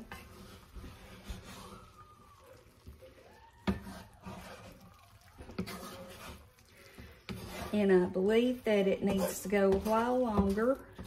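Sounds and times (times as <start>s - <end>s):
wooden spoon scraping a pot: 0.0s - 11.0s.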